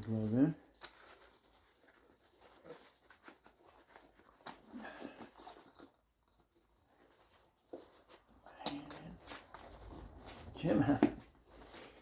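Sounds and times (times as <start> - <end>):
soft rubbing and rustling: 0.0 - 12.0.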